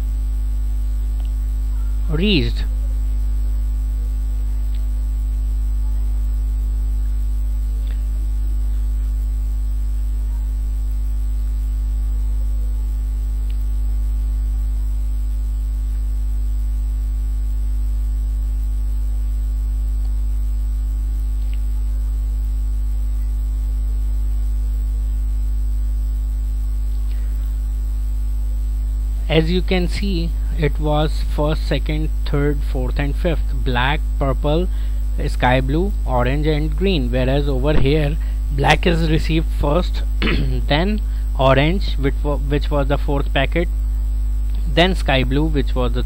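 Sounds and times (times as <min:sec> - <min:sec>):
low mains hum: 0:00.0 - 0:46.0.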